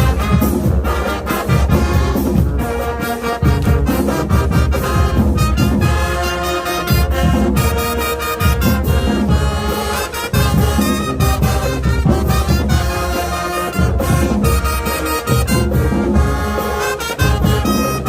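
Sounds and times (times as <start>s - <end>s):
brass chords: 0.0s - 18.0s
marching band playing: 0.0s - 18.0s
steady drum beat: 0.0s - 18.0s.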